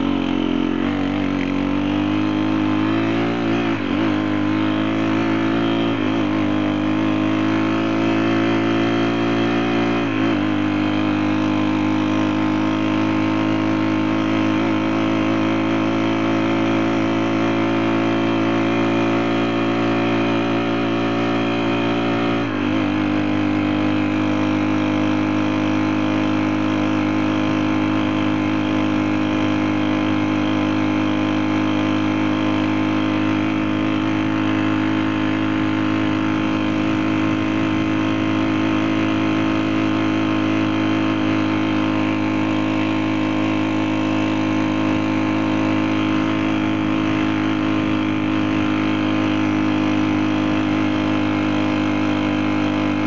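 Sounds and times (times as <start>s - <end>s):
motorbike engine running steadily: 0.0s - 53.0s.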